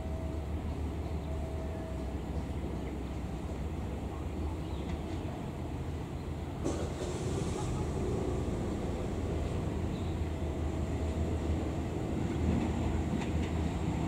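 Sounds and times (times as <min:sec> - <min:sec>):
train engine droning: 0:00.0 - 0:14.0.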